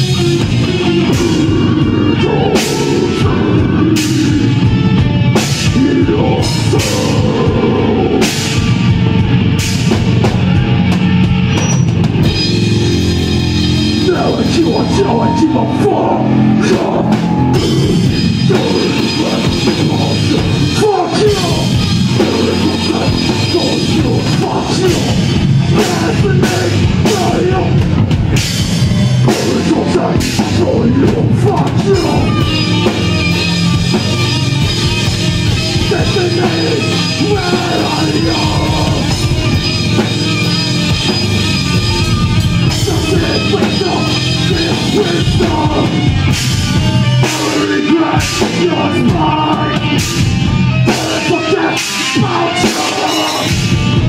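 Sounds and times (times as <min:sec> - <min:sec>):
drum kit: 0:00.0 - 0:54.0
electric guitar: 0:00.0 - 0:54.0
rock band playing live: 0:00.0 - 0:54.0.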